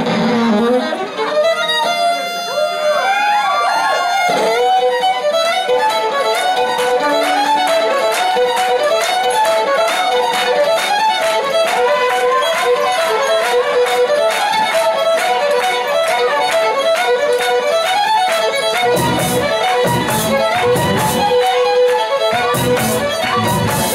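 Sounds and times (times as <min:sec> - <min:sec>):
crowd clapping along: 0:03.0 - 0:23.9
folk ensemble playing a fast reel: 0:04.1 - 0:23.9.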